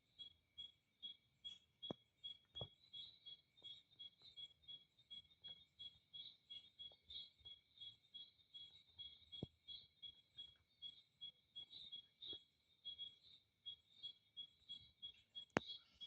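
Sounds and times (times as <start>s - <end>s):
thin continuous tone: 0.0s - 16.0s
insect chirping: 0.1s - 16.0s.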